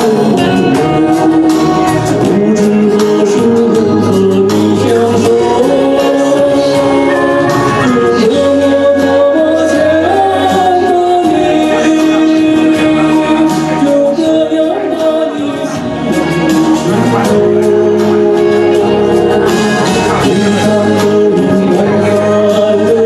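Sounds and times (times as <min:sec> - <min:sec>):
instrumental accompaniment: 0:00.0 - 0:23.0
man singing pop ballad: 0:00.0 - 0:23.0.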